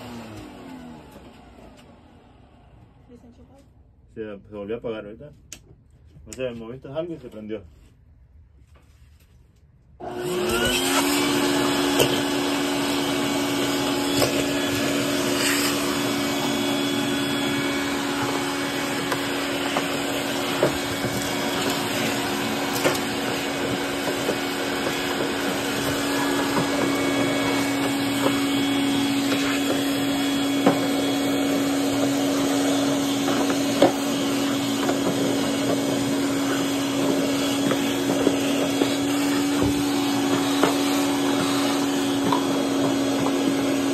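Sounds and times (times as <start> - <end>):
vacuum cleaner motor running: 0.0 - 3.0, 10.0 - 43.9.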